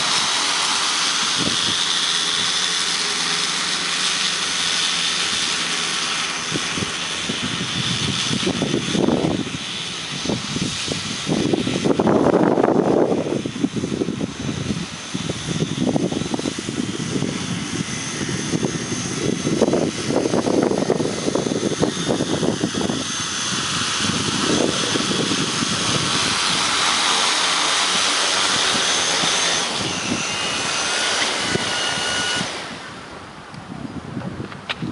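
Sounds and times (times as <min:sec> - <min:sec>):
drone propellers whining: 0:00.0 - 0:34.9
wind rumbling on microphone: 0:00.0 - 0:34.9.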